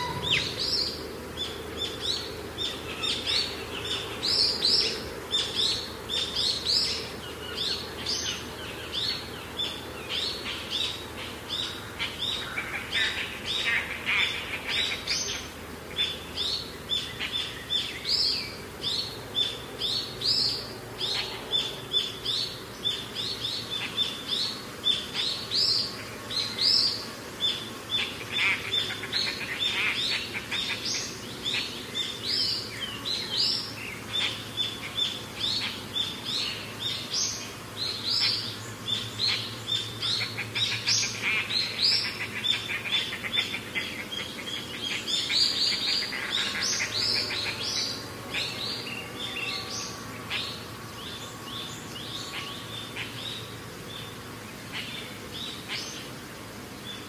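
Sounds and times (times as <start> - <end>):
many birds chirping: 0.0 - 57.0.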